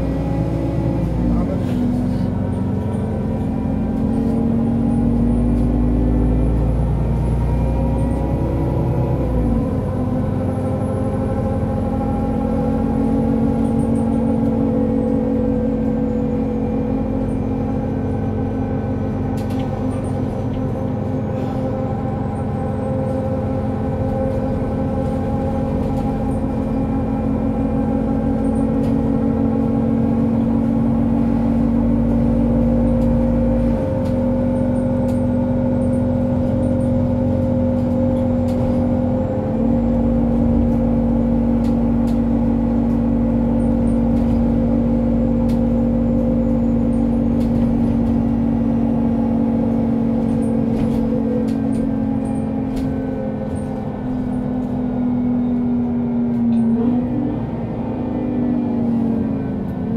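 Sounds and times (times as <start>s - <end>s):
bus diesel engine droning: 0.0s - 59.9s
deep engine rumble: 0.0s - 59.9s.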